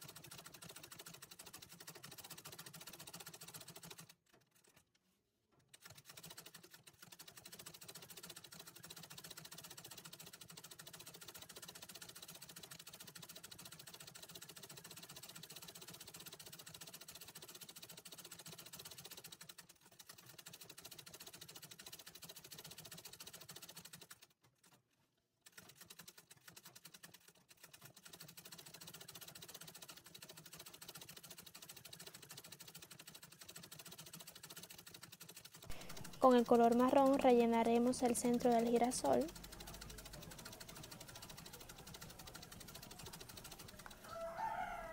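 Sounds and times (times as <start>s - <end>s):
treadle sewing machine stitching: 0.0s - 4.8s, 5.6s - 44.9s.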